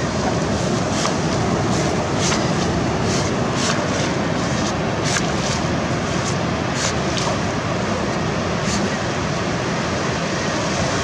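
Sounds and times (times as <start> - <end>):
surf: 0.0 - 11.0
wind noise on microphone: 0.0 - 11.0
splashy hisses of water: 0.2 - 9.3.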